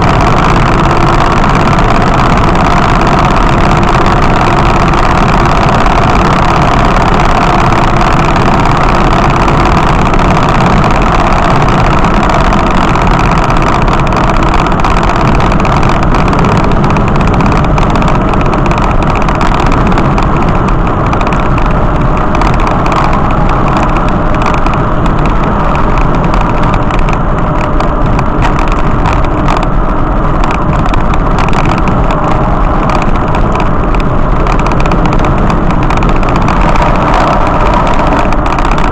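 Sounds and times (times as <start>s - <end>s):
vehicle engine and road noise: 0.0s - 38.9s.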